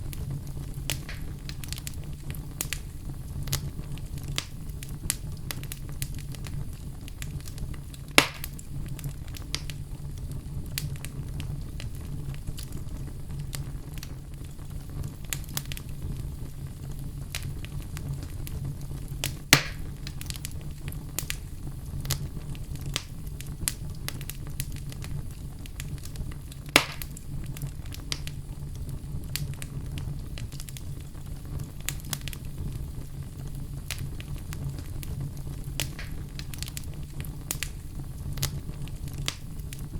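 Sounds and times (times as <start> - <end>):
fire low rumble: 0.0 - 39.9
loud fire pops: 0.0 - 39.9
wood fire crackling: 0.0 - 39.9.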